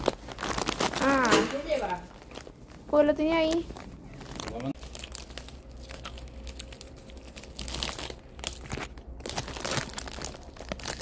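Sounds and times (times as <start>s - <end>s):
plastic snack bag crinkling: 0.0s - 11.0s.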